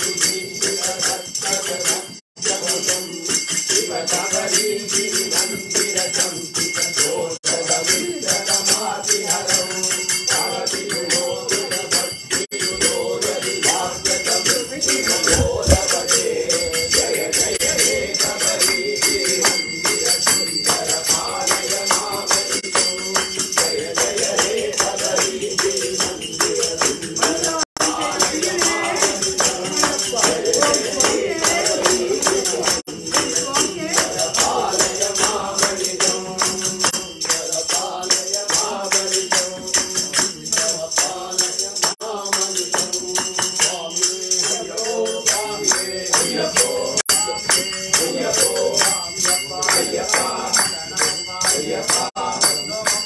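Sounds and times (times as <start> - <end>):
jingling ringing percussion: 0.0 - 53.0
people singing: 0.0 - 53.0.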